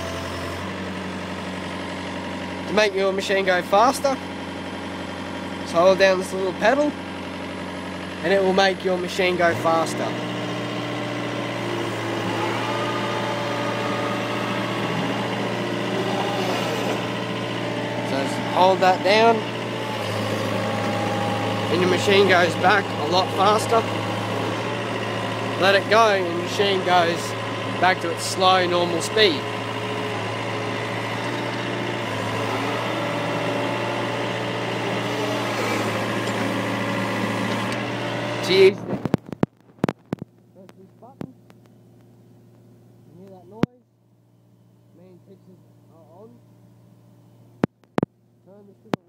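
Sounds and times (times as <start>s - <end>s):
hydraulics working: 0.0s - 40.0s
excavator tracks moving: 0.0s - 42.6s
excavator diesel engine running: 0.0s - 49.0s.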